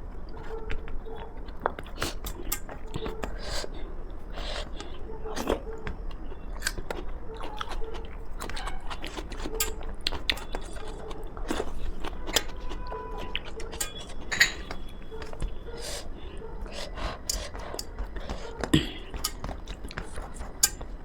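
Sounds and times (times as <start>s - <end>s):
person chewing food: 0.3s - 21.0s.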